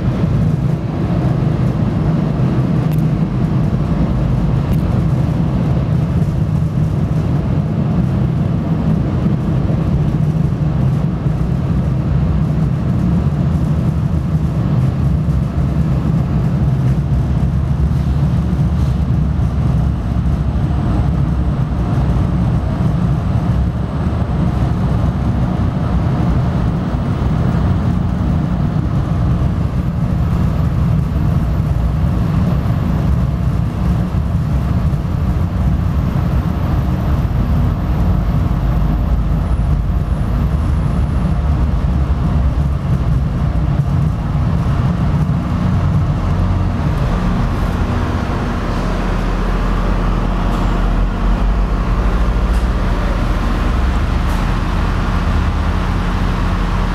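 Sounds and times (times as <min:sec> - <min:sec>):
train rumble inside passenger coach: 0:00.0 - 0:56.9.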